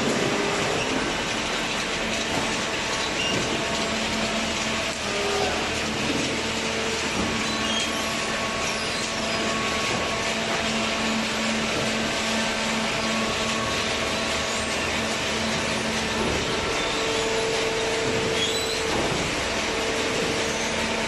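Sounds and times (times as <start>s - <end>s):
hydraulic baler humming and whirring: 0.0s - 21.0s.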